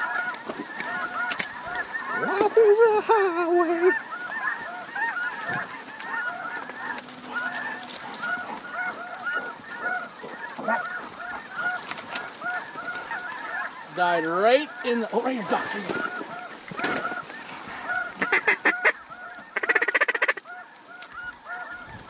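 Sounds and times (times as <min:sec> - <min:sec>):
flock of geese honking: 0:00.0 - 0:22.0.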